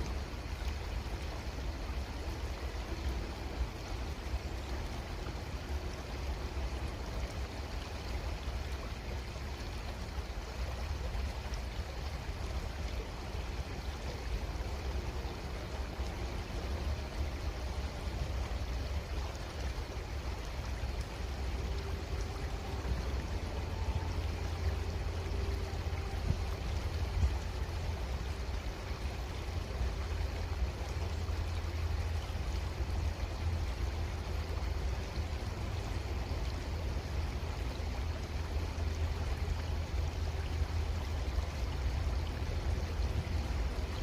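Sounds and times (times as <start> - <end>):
creek water trickling: 0.0 - 44.0.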